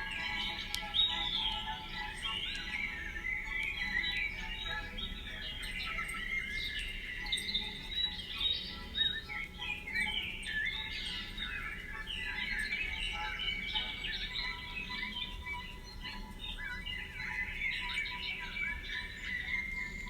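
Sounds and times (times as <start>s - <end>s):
birds singing and chirping: 0.0s - 20.0s.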